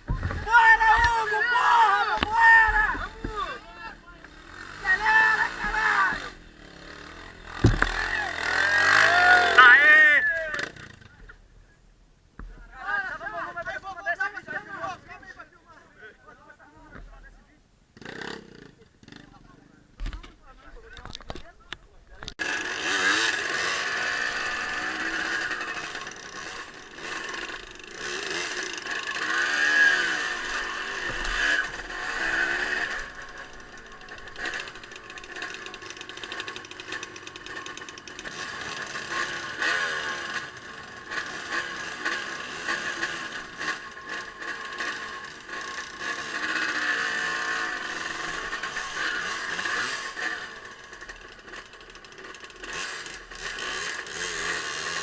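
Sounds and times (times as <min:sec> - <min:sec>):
off-road vehicle engine revving: 0:00.0 - 0:11.3, 0:18.0 - 0:19.4, 0:22.2 - 0:55.0.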